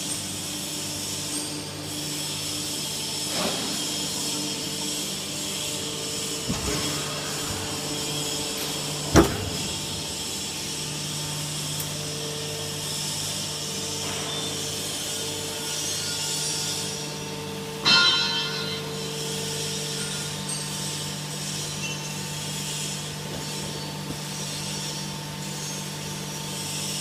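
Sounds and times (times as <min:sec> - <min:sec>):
can baler machine hum: 0:00.0 - 0:27.0.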